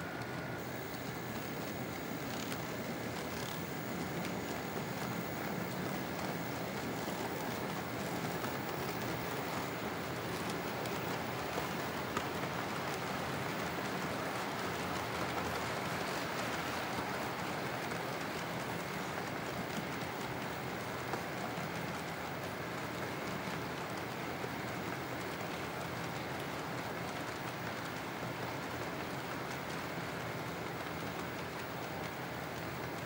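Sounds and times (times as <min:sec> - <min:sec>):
model train wheels rattling: 0:00.0 - 0:33.0.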